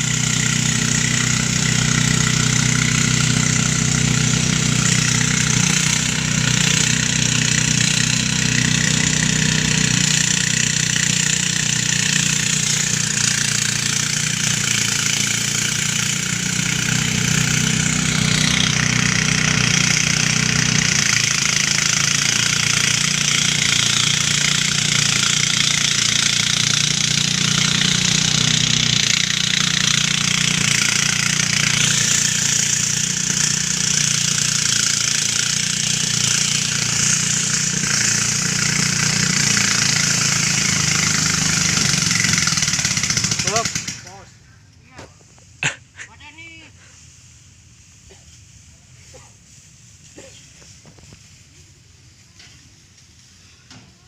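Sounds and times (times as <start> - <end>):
threshing drum rattling: 0.0 - 44.2
thresher engine humming: 0.0 - 54.0.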